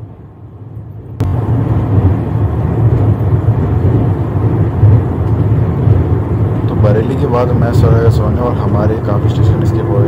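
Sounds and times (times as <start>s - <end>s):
train coach rumbling on track: 0.0s - 10.0s.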